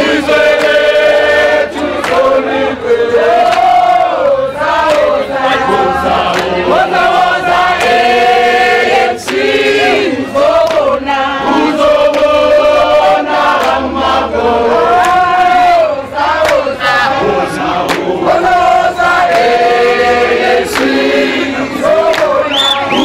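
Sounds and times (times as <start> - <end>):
crowd singing: 0.0 - 23.0.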